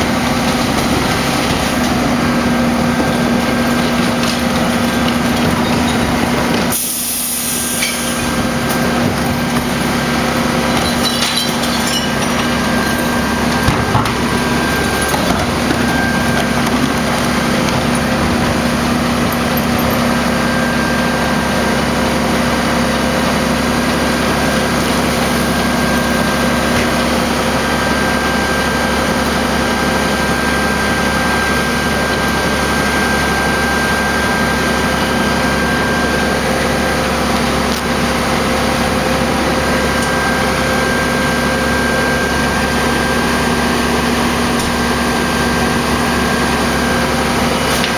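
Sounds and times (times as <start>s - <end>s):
garbage truck engine hum: 0.0s - 47.9s.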